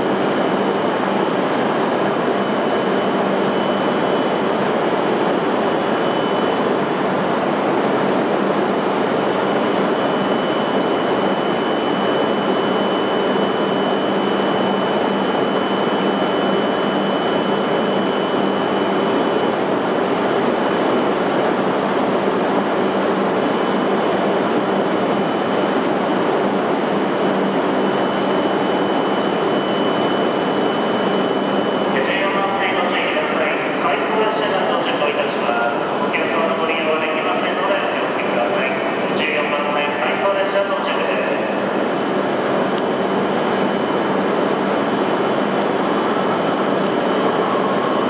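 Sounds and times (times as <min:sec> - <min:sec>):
high whine: 0:00.0 - 0:48.0.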